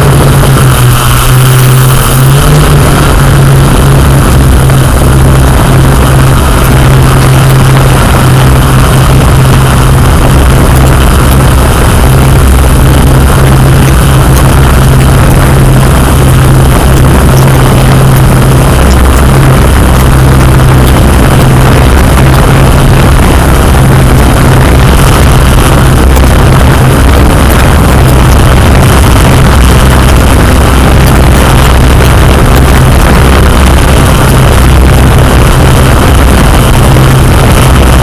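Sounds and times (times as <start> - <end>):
drone motors and propellers: 0.0 - 38.0.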